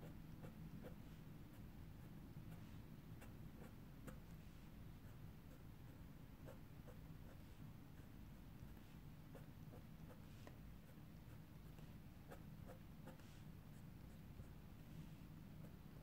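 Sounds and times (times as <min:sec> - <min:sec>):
pen scratching on paper: 0:00.0 - 0:14.6
low room hum: 0:00.0 - 0:16.0.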